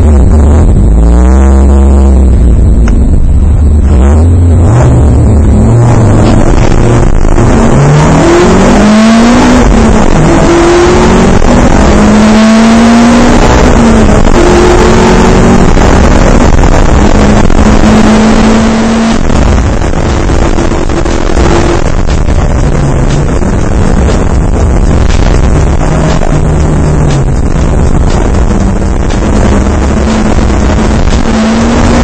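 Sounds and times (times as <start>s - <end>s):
constant rush of noise: 0.0s - 32.0s
race car engine at full throttle: 0.0s - 32.0s.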